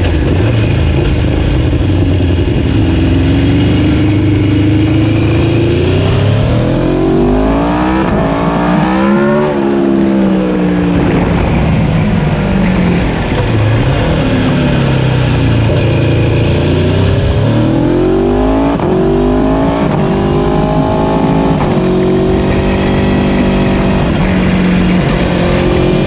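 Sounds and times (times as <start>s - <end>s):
motorcycle engines accelerating: 0.0s - 26.0s
wind and road noise: 0.0s - 26.0s.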